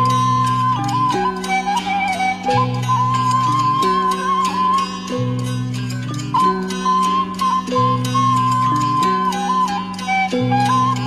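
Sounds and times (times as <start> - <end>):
plucked strings: 0.0 - 11.0.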